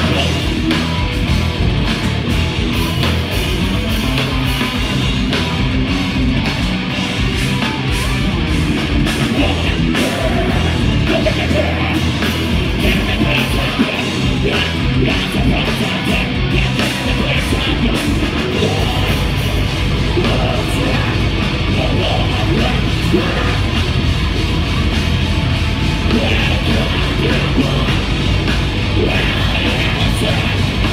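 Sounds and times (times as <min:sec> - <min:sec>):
bass: 0:00.0 - 0:30.9
distorted guitars: 0:00.0 - 0:30.9
drums: 0:00.0 - 0:30.9.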